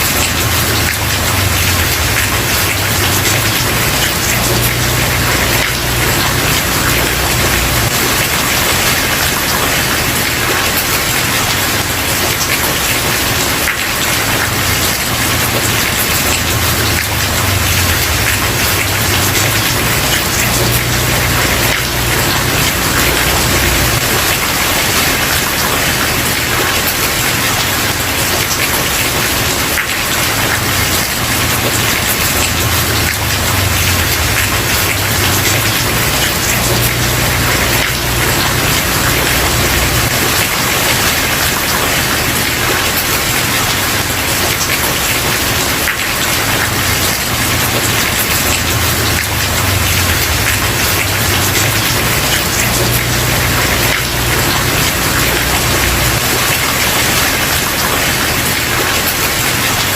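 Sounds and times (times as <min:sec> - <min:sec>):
rain on a wooden porch: 0:00.0 - 0:59.9.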